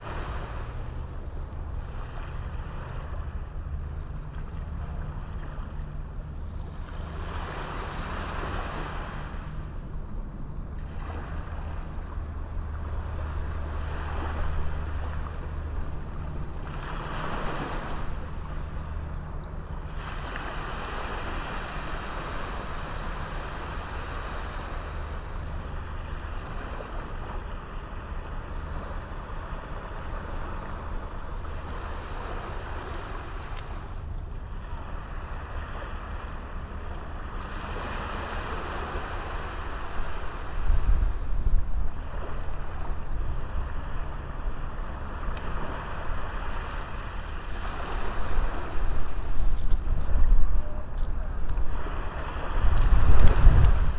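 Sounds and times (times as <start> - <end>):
waves breaking on beach: 0.0 - 53.9
wind rumble on microphone: 0.0 - 53.9.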